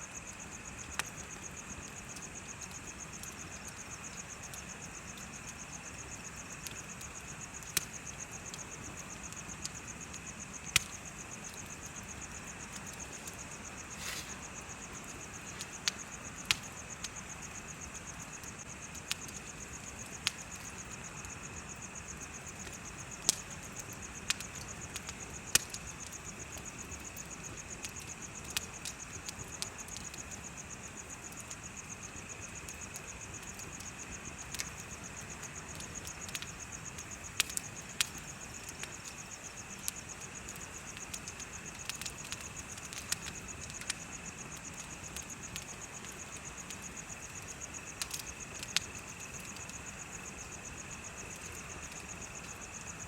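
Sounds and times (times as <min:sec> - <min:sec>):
insects chirping: 0:00.0 - 0:53.0
bonfire crackling and popping: 0:00.1 - 0:53.0.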